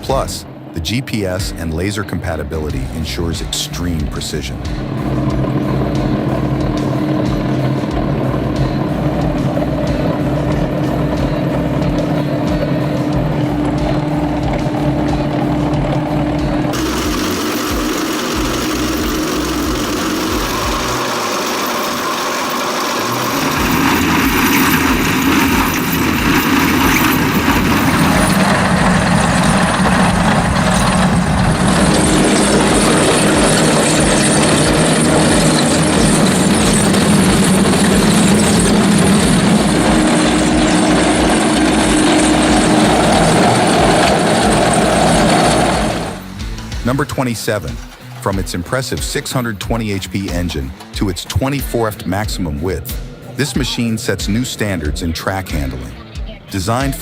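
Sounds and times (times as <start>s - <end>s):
heavy machine engine running: 2.5s - 57.0s.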